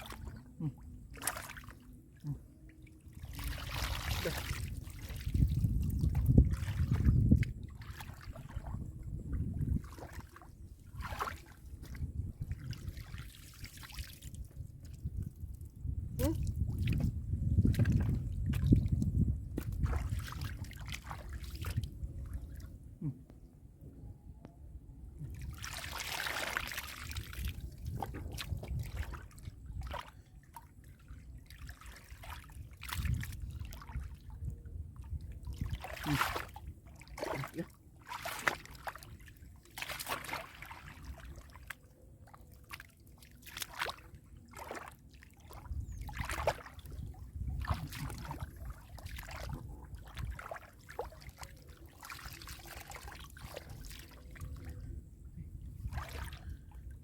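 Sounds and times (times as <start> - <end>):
splashing in muddy water: 0.0 - 22.8, 25.2 - 55.0, 55.7 - 57.0.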